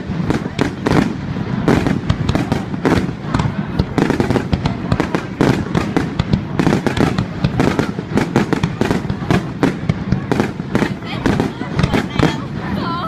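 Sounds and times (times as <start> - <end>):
fireworks cracking and banging: 0.0 - 13.0.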